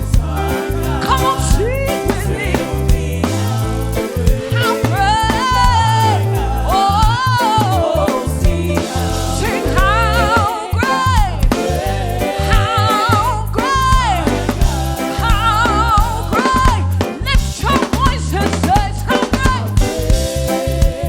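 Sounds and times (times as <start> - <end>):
singing: 0.0 - 16.9
live reggae band playing: 0.0 - 21.0.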